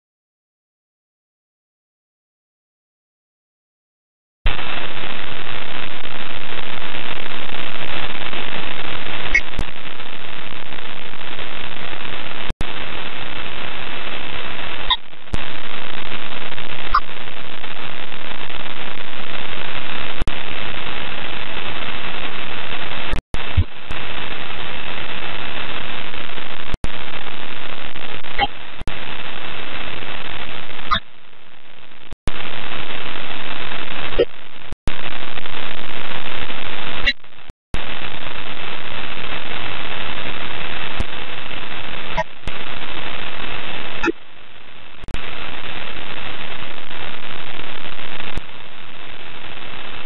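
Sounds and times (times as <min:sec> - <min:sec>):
radio static hiss: 0:04.5 - 0:50.0.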